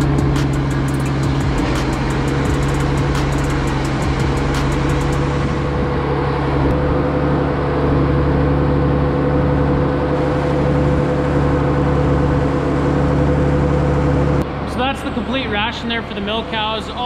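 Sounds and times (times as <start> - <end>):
feed mixer wagon drone: 0.0 - 17.0.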